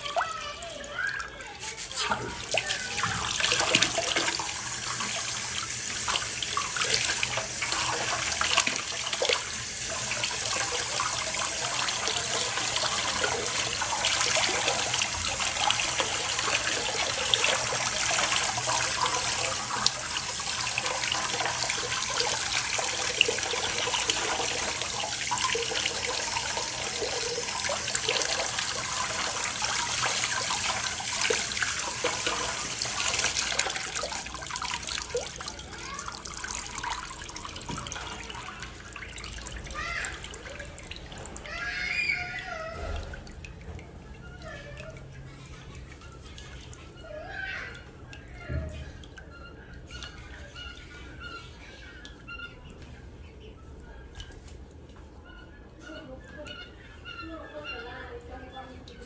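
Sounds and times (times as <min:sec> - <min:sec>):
water splashing: 0:00.0 - 0:51.5
tap water pouring into basin: 0:00.0 - 0:53.0.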